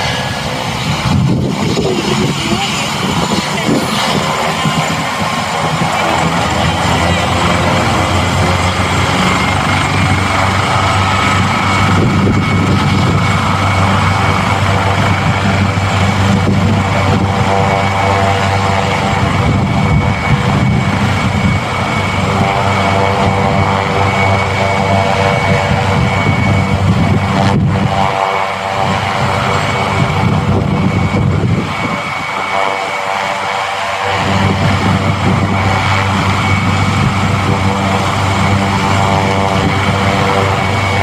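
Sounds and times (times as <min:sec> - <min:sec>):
helicopter rotors beating: 0:00.0 - 0:41.0
helicopter turbine whine: 0:00.0 - 0:41.0.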